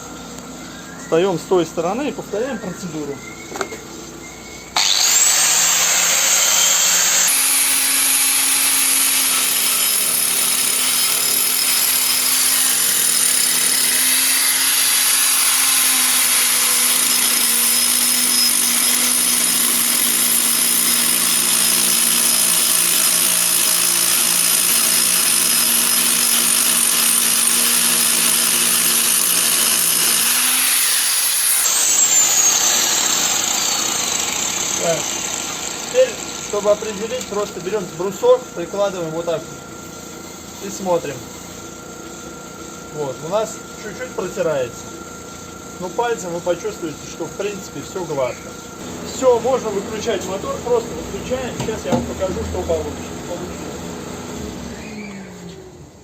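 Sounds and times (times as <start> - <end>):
angle grinder grinding brake disc: 4.8 - 53.4.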